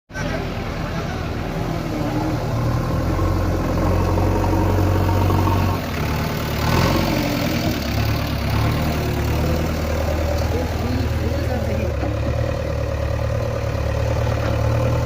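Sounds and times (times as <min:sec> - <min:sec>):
diesel engine running at low revs: 0:00.1 - 0:15.0.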